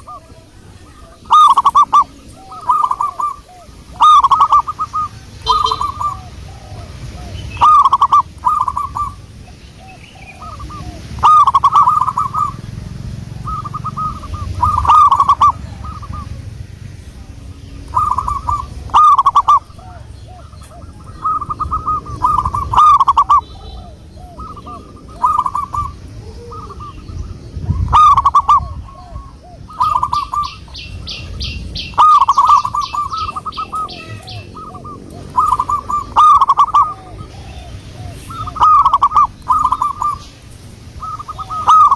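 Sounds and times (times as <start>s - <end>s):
dove cooing: 0.0s - 41.9s
high ticking bird notes: 0.0s - 41.9s.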